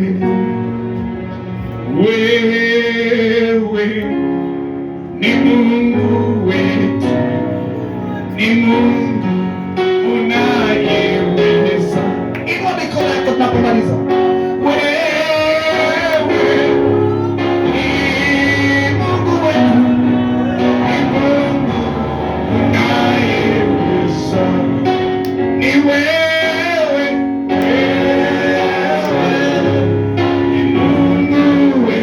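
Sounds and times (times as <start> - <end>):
male and female voices singing: 5.2 - 13.5, 14.4 - 32.0.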